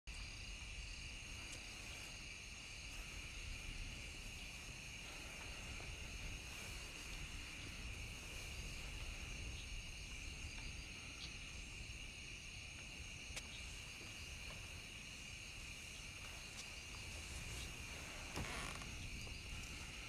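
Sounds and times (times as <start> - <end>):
insects chirring: 0.1 - 20.0.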